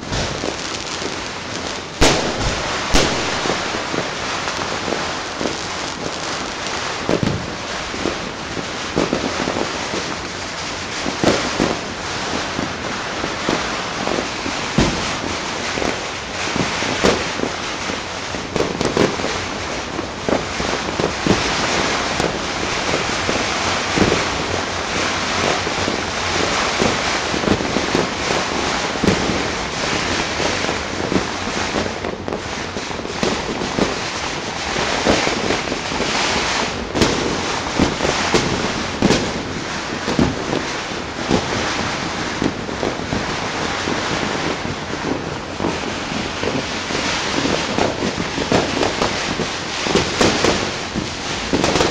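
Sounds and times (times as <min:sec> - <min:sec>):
fireworks crackling and banging: 0:00.0 - 0:51.9.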